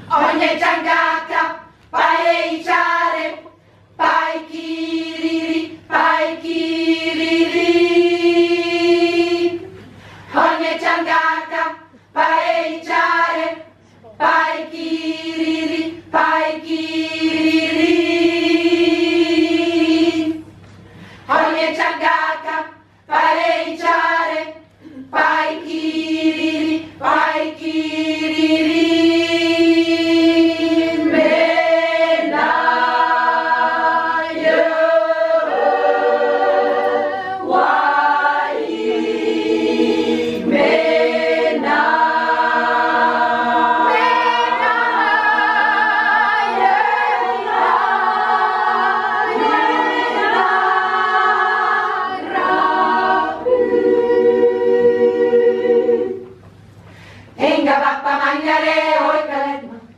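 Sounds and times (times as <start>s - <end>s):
women's choir singing unaccompanied: 0.0s - 20.6s, 21.2s - 56.7s, 57.4s - 59.9s.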